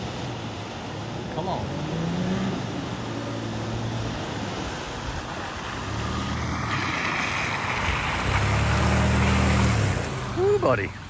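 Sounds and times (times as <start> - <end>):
water and mud churning: 0.0 - 11.0.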